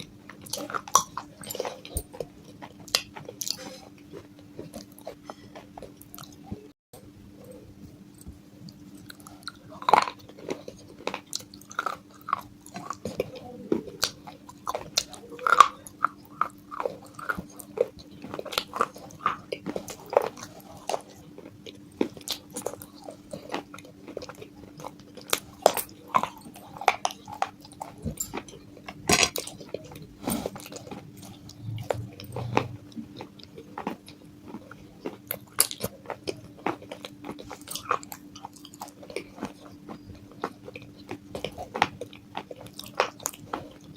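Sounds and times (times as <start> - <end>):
crunchy biting and chewing: 0.0 - 6.4, 8.9 - 43.9.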